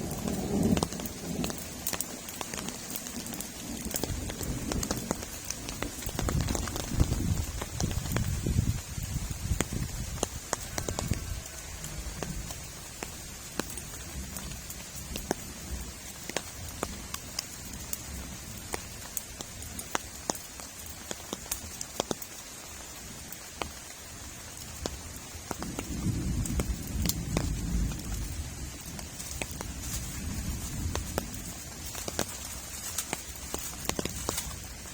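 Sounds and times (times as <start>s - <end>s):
heavy rain falling: 0.0s - 34.9s
raindrops ticking on surface: 0.0s - 34.9s.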